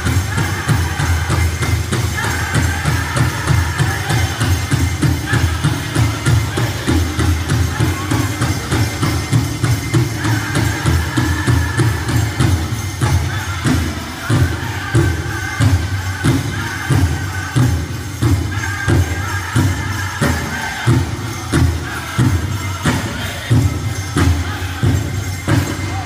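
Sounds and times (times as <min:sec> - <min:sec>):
group singing in high voices: 0:00.0 - 0:26.0.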